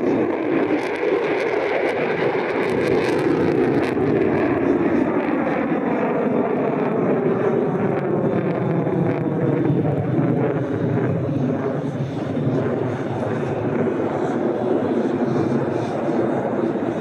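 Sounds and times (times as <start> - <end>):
jet flying overhead: 0.0 - 17.0.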